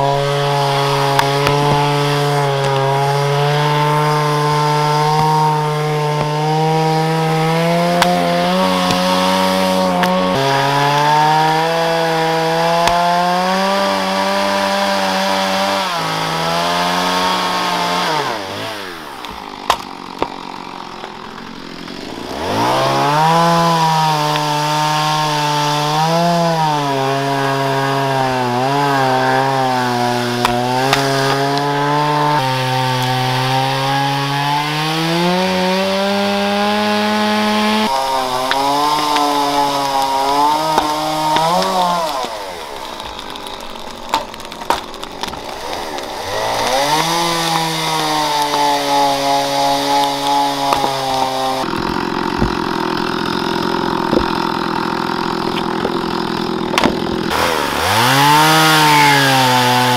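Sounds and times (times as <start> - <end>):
axes splitting wood: 0.0 - 59.9
chainsaw revving: 0.0 - 59.9.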